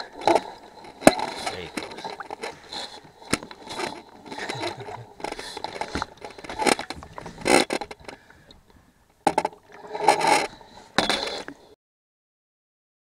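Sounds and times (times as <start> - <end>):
pole scraping and knocking on boat: 0.0 - 8.3, 9.3 - 11.6.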